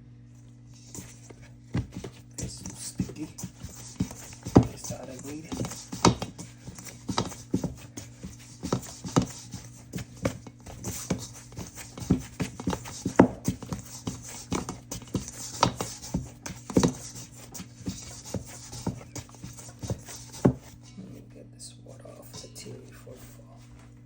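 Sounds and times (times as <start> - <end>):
steady low hum: 0.0 - 24.0
dough being kneaded by hand: 0.6 - 20.9.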